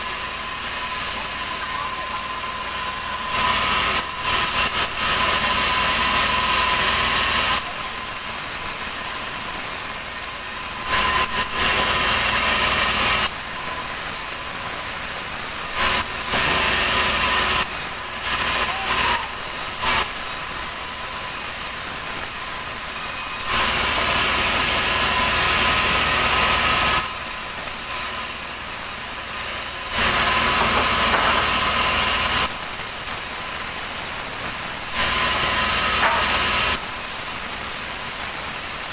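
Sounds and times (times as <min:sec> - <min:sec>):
band saw whine: 0:00.0 - 0:32.6, 0:34.8 - 0:36.9
blade cutting wood hiss: 0:00.0 - 0:38.9.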